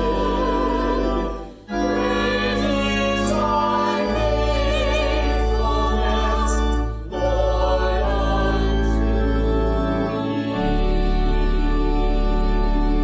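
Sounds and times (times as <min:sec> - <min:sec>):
choir singing slow sustained notes: 0:00.0 - 0:13.0
low steady accompaniment: 0:00.0 - 0:13.0.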